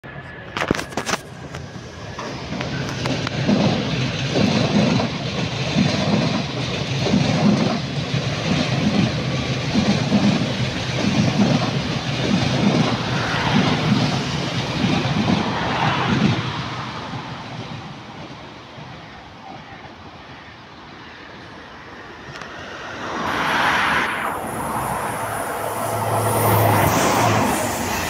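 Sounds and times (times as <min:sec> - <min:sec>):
train passing with rushing rumble: 0:00.0 - 0:28.0
train wheels beating rhythmically: 0:01.4 - 0:20.2, 0:24.3 - 0:28.0.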